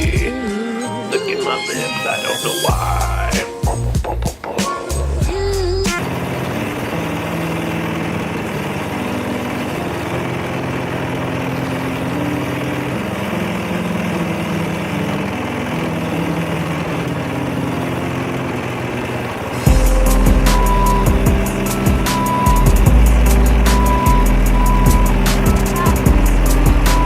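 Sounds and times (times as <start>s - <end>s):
riding lawn mower engine running: 2.3s - 27.0s.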